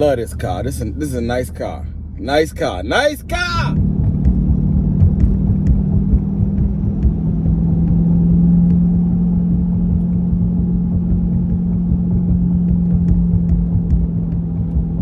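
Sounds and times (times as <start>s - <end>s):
car engine droning while driving: 0.0s - 15.0s.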